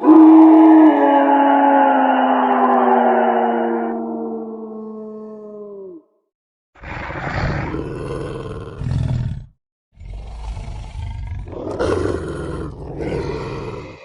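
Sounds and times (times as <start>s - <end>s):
growling creature roar: 0.0s - 6.0s, 6.8s - 14.0s.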